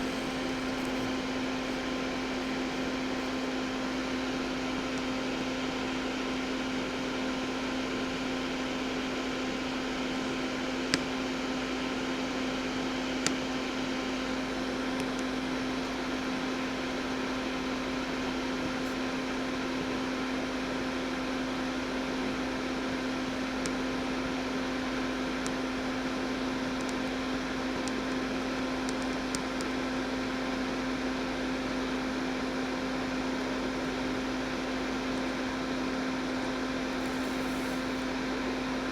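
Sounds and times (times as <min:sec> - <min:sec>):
vent fan humming: 0:00.0 - 0:38.9.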